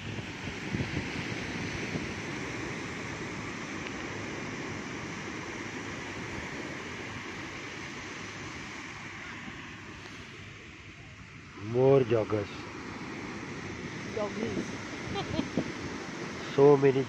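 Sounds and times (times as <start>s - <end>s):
surf breaking on beach: 0.0s - 17.0s
wind buffeting microphone: 0.0s - 17.0s.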